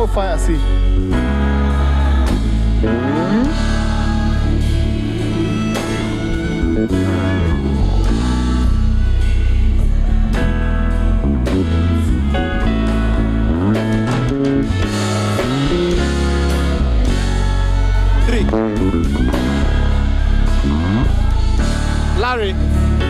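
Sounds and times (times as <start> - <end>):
bass notes: 0.0 - 23.0
guitar: 0.0 - 23.0
keyboard: 0.0 - 23.0
drum kit: 1.0 - 23.0.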